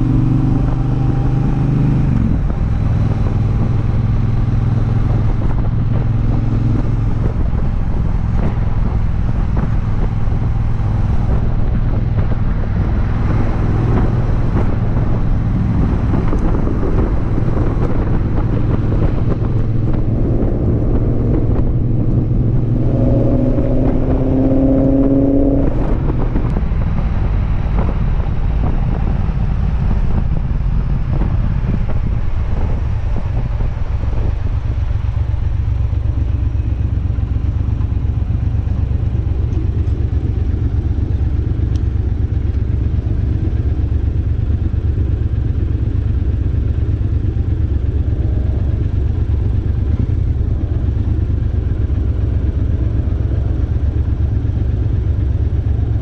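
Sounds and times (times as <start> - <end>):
motorcycle engine decelerating: 0.0 - 56.0
wind and road rush: 0.0 - 56.0
motorcycle idling: 2.2 - 56.0.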